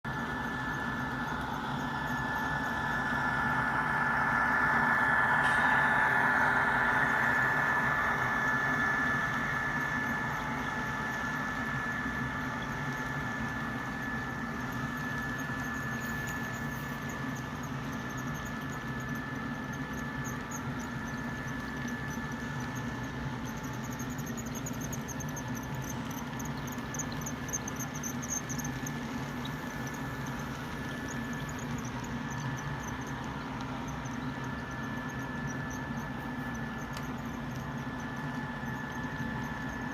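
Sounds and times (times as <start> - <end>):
model train motor whine: 0.1 - 39.9.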